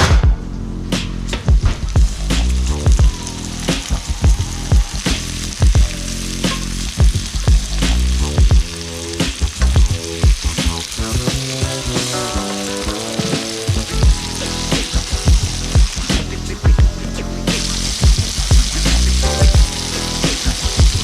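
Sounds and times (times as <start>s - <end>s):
background music with beat: 0.0s - 21.0s
fish sizzling in a pan: 3.1s - 16.4s, 17.4s - 21.0s.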